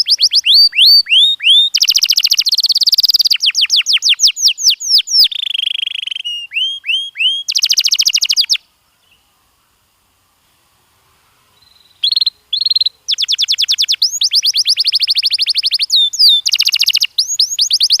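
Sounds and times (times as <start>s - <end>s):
canary singing: 0.0s - 9.2s, 11.6s - 18.0s.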